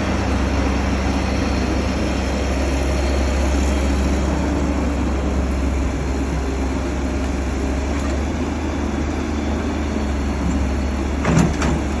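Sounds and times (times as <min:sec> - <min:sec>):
heavy machine engine droning: 0:00.0 - 0:12.0.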